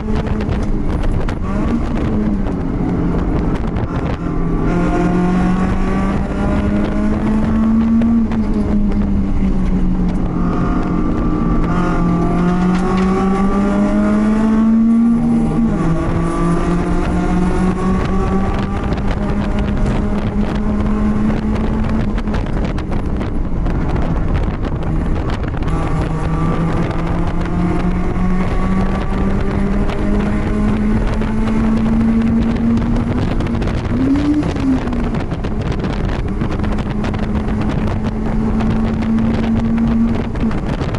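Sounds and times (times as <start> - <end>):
race car engine under load: 0.0 - 40.9
wind noise: 0.0 - 40.9.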